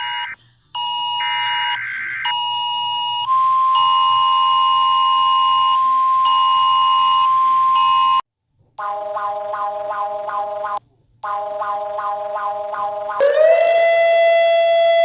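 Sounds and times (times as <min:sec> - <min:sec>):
pulsing electronic alarm tones: 0:00.0 - 0:08.2, 0:08.8 - 0:15.0.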